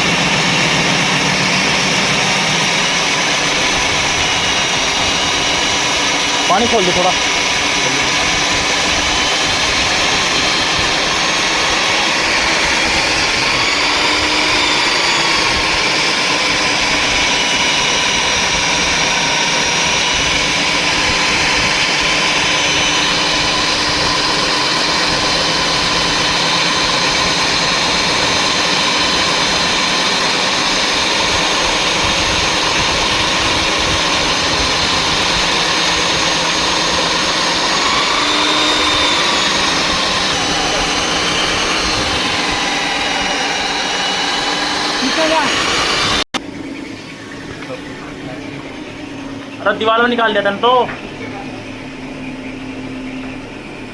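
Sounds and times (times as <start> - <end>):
core drill motor whine: 0.0 - 53.9.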